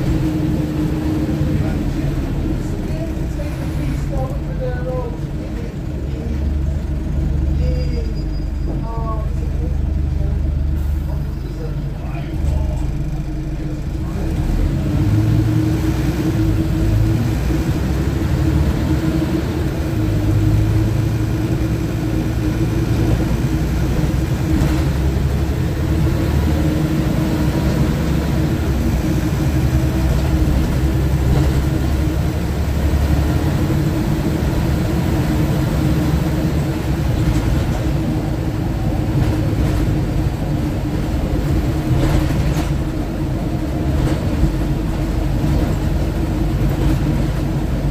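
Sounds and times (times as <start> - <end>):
bus engine rumble inside cabin: 0.0 - 47.9.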